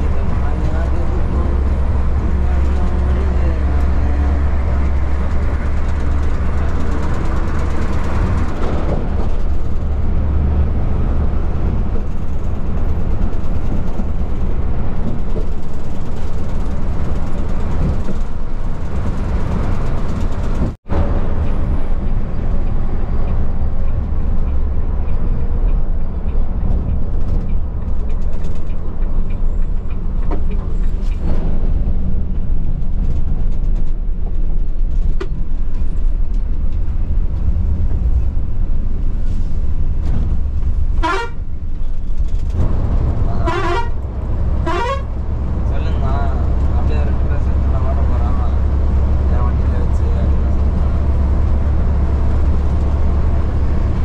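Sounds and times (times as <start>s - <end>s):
coach diesel engine rumbling: 0.0s - 54.0s
tyres on road: 0.0s - 54.0s.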